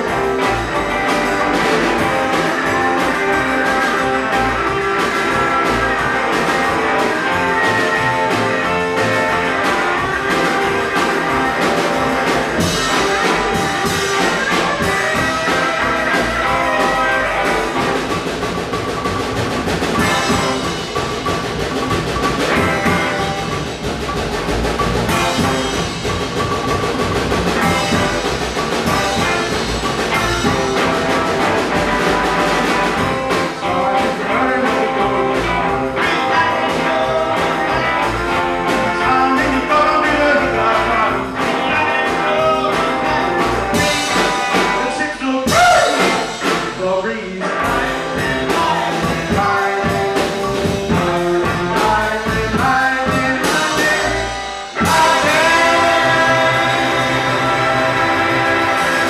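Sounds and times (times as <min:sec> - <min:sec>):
live rock and roll band: 0:00.0 - 0:59.0.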